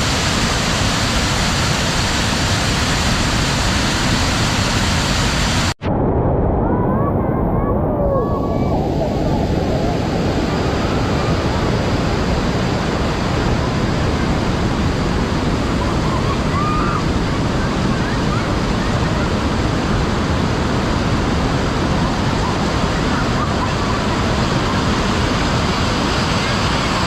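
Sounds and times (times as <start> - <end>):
floodwater roaring: 0.0 - 27.0.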